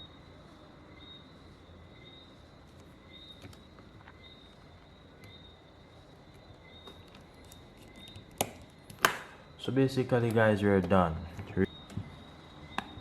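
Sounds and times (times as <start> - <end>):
faint high chirp: 0.0 - 10.1, 11.0 - 13.0.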